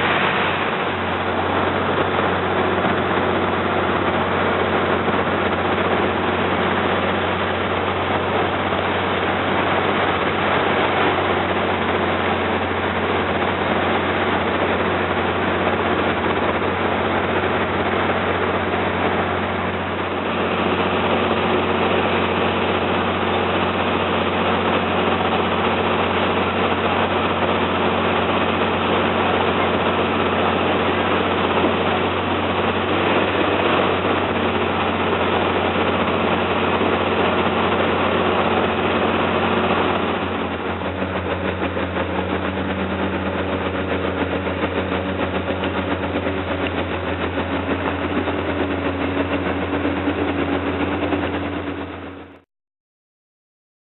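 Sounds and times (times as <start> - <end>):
boat engine low hum: 0.0 - 52.4.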